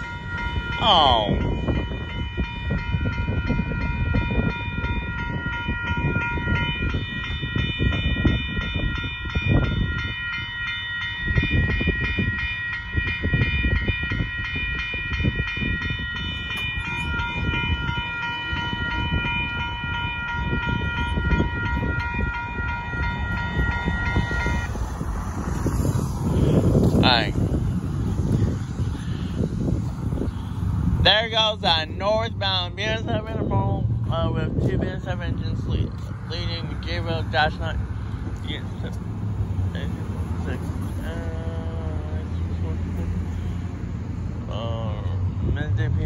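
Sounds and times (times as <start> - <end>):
crossing warning bell ringing: 0.0 - 46.0
freight train rumbling on rails: 0.0 - 46.0.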